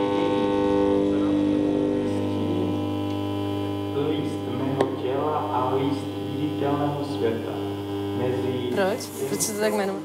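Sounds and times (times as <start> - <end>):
electrical hum: 0.0 - 10.0
steady tones: 0.0 - 10.0.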